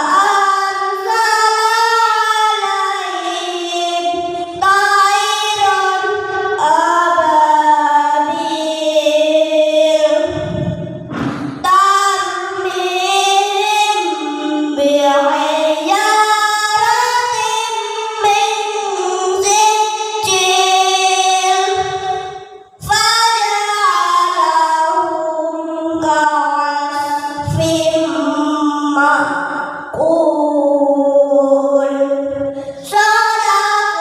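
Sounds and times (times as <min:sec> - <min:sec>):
child singing solo: 0:00.0 - 0:10.6, 0:11.6 - 0:22.2, 0:22.8 - 0:34.0.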